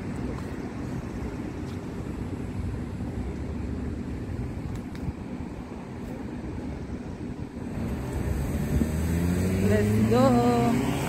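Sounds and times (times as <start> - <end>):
road traffic rumble: 0.0 - 11.0
wind on microphone: 0.0 - 11.0.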